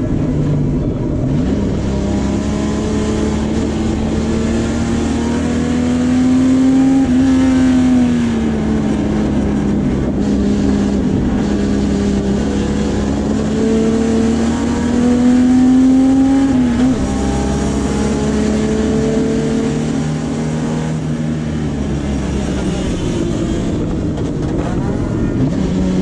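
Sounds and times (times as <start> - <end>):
race car engine: 0.0 - 26.0.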